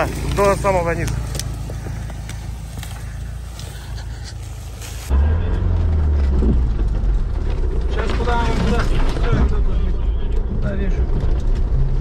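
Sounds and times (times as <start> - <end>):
deep engine drone: 0.0 - 12.0
off-road vehicle engine running: 0.0 - 12.0.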